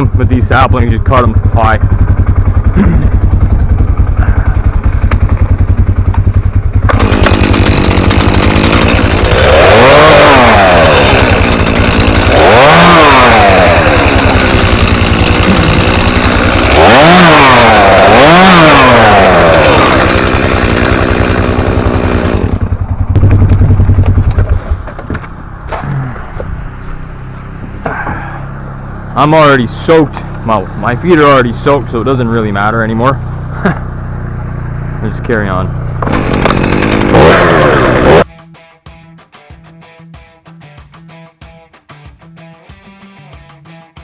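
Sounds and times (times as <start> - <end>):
chainsaw idling and revving: 0.0 - 38.3.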